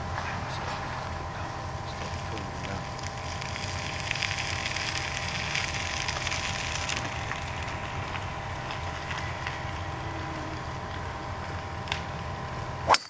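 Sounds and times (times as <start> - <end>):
crackling rustling noise: 0.0 - 12.8
faint steady hum: 0.0 - 13.0.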